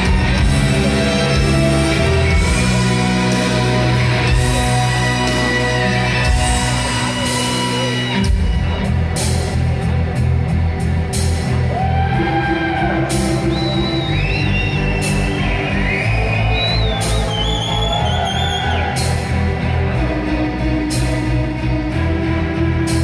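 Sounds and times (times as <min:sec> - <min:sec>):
drums: 0:00.0 - 0:23.0
orchestral strings: 0:00.0 - 0:23.0.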